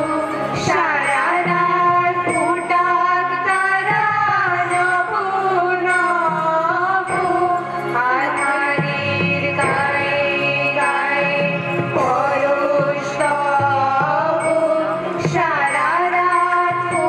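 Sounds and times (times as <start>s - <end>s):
instrumental accompaniment: 0.0s - 17.0s
women singing into microphones: 0.0s - 17.0s.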